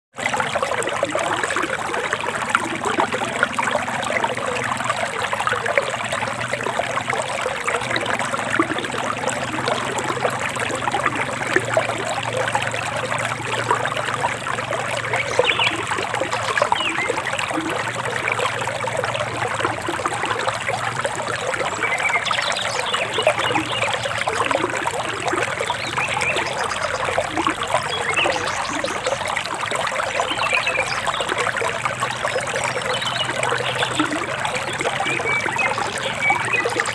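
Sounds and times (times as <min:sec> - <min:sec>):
stream trickling and splashing: 0:00.1 - 0:36.9.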